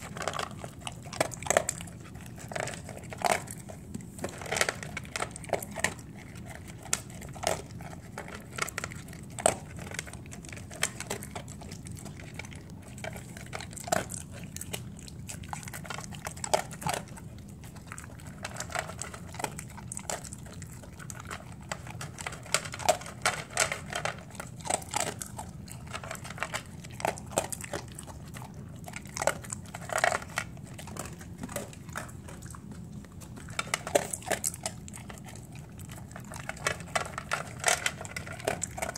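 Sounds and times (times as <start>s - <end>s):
dog crunching kibble in metal bowl: 0.0s - 38.9s.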